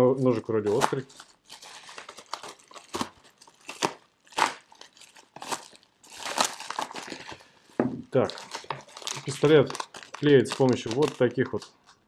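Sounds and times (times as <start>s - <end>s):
bubble wrap crackles: 0.0s - 12.0s
bubble wrap crinkling: 0.0s - 12.0s.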